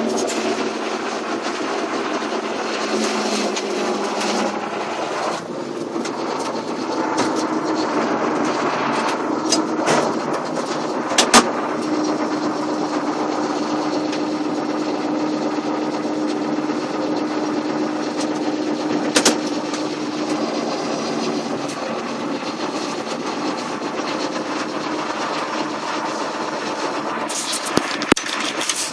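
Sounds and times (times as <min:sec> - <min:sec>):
tractor diesel engine under load: 0:00.0 - 0:28.9.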